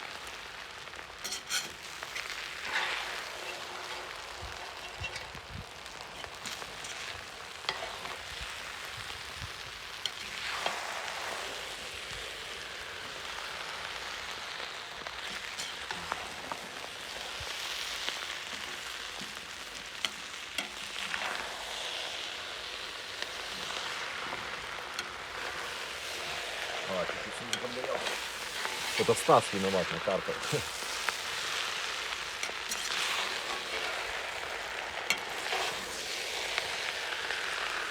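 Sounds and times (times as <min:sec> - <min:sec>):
food sizzling in a pot: 0:00.0 - 0:37.9
faint clicks and crackles: 0:01.0 - 0:10.8, 0:13.0 - 0:37.9.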